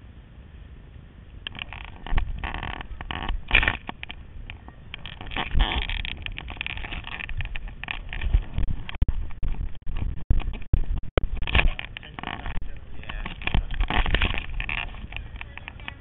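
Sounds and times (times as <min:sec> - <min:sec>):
microphone knocks and rustle: 0:01.5 - 0:16.0.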